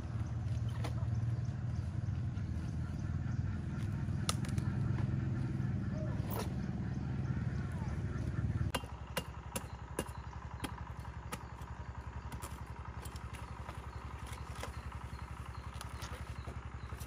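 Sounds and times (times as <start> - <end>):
small engine idling: 0.0 - 17.0.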